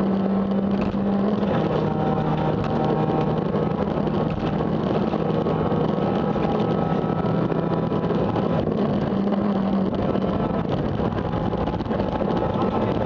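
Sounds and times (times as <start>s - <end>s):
car engine pulling hard: 0.0s - 13.0s
tyres rumbling on gravel: 0.0s - 13.0s.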